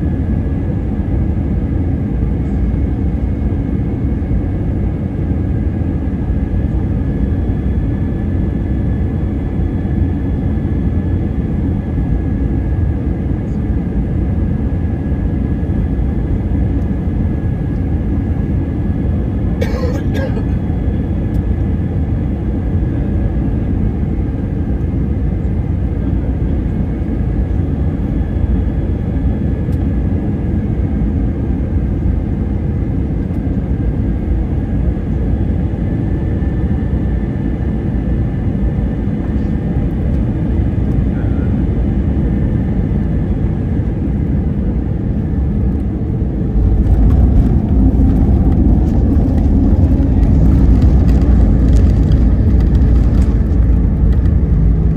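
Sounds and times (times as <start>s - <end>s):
airliner rumble: 0.0s - 54.9s
faint high engine whine: 0.0s - 54.9s.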